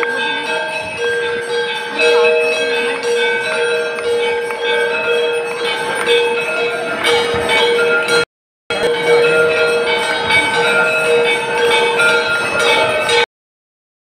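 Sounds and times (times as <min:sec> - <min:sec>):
temple bells ringing: 0:00.0 - 0:13.3.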